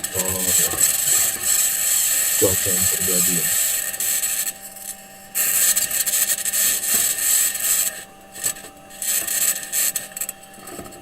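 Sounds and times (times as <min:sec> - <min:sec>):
faint steady electrical tone: 0:00.0 - 0:10.7.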